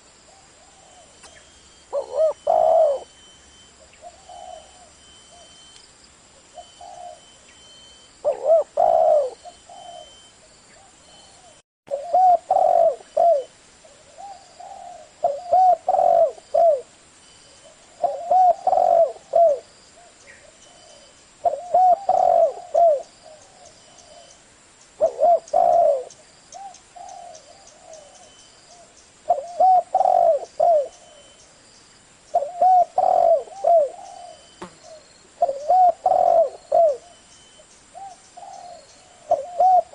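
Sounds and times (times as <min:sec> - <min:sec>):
dove cooing: 0:00.3 - 0:03.2, 0:03.8 - 0:05.7, 0:06.5 - 0:07.5, 0:08.2 - 0:16.9, 0:17.6 - 0:24.4, 0:25.0 - 0:31.4, 0:32.3 - 0:39.9.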